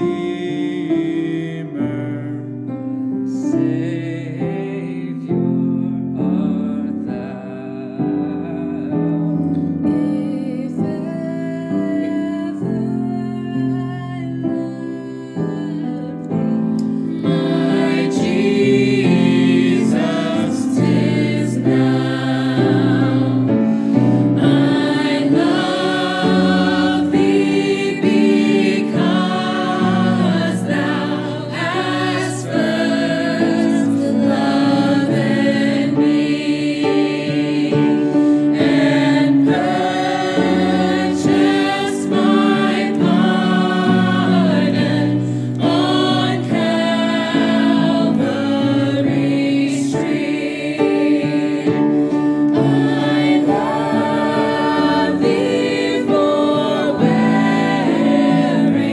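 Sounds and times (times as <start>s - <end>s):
piano accompaniment: 0.0s - 58.9s
vocal ensemble singing a hymn: 0.0s - 58.9s.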